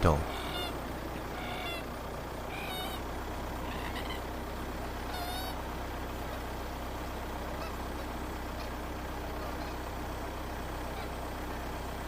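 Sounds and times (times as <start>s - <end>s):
wavering bird calls: 0.0s - 6.5s, 7.2s - 11.6s
car driving slowly: 0.0s - 12.0s.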